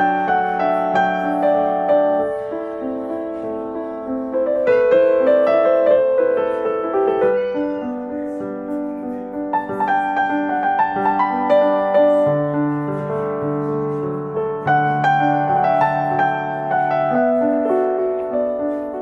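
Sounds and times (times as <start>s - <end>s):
piano melody over chords: 0.0s - 19.0s.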